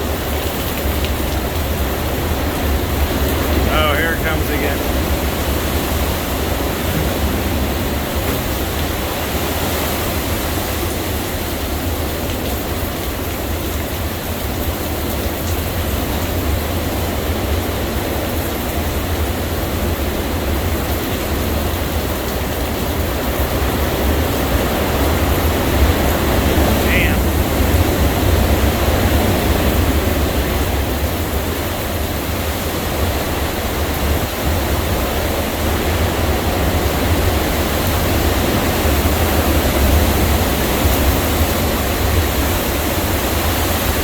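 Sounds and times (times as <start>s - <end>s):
hurricane wind blowing hard: 0.0s - 44.0s.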